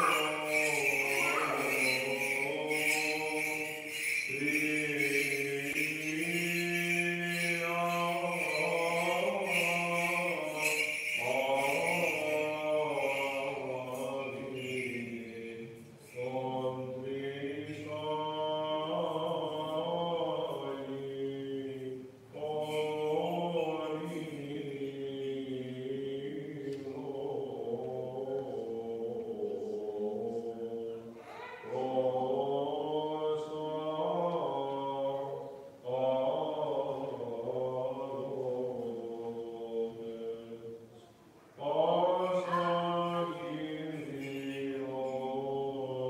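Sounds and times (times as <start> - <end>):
man chanting unaccompanied: 0.0 - 41.0, 41.6 - 46.0.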